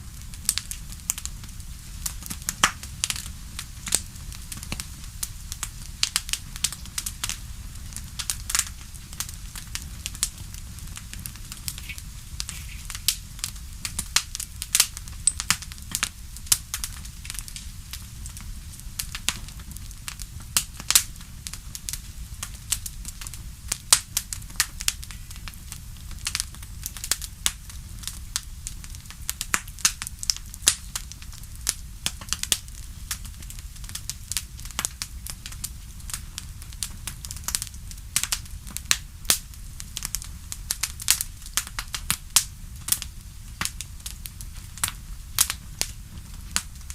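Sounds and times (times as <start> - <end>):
low fire rumble: 0.0 - 46.9
fire pops and snaps: 0.1 - 46.9.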